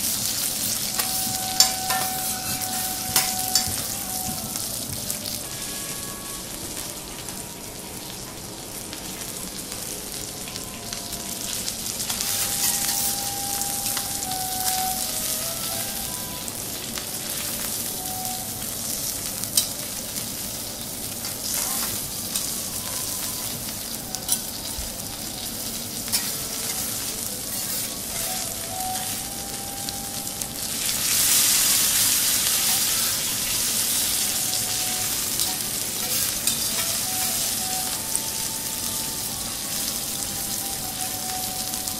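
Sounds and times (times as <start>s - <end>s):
meat sizzling on a hot griddle: 0.0s - 41.9s.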